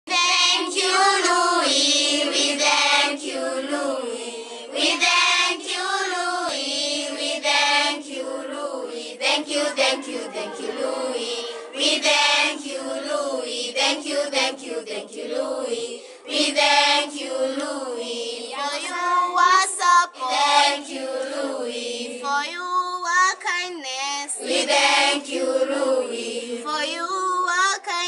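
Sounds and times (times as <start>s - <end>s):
choir of young voices singing: 0.1s - 22.5s, 24.3s - 27.1s.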